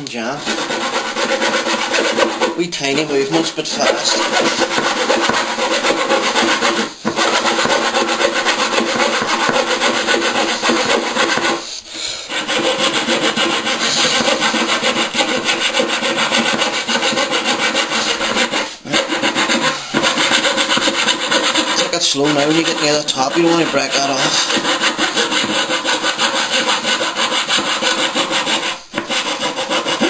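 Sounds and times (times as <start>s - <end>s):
saw rasping through wood: 0.4s - 30.0s.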